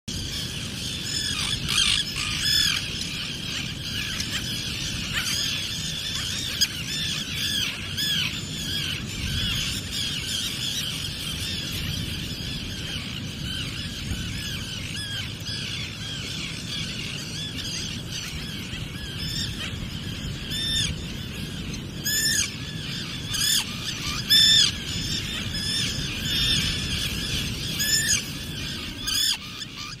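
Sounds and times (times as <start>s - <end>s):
close tern calls: 0.2s - 30.0s.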